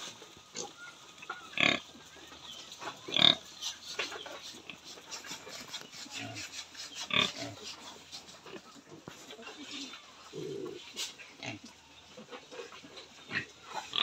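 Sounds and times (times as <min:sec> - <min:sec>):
pigs grunting and squealing: 0:00.5 - 0:14.0.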